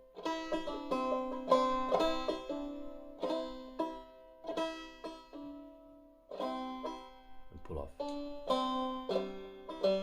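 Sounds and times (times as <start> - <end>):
banjo played clawhammer style: 0.0 - 10.0.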